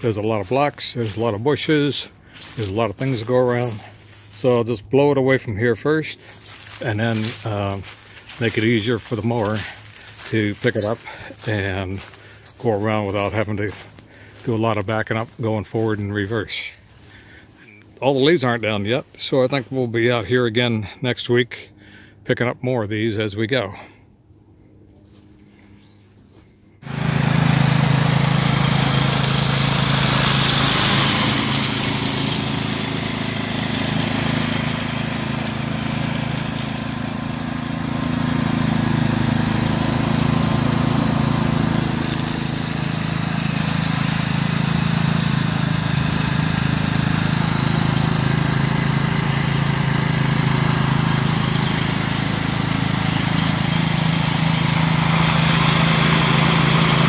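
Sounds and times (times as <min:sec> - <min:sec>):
riding mower engine: 0:00.0 - 0:22.2, 0:24.8 - 0:57.0.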